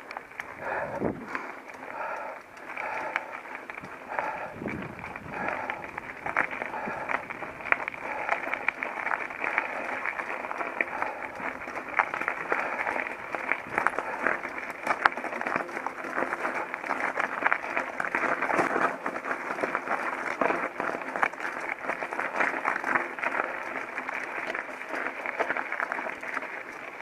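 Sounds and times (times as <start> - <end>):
bike frame rattling: 0.0 - 27.0
bike tyres on gravel: 0.0 - 27.0.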